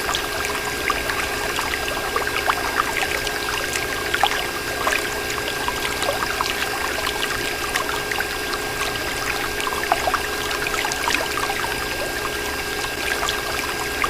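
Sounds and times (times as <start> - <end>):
drips and bubbles: 0.0 - 14.0
water pouring and splashing: 0.0 - 14.0.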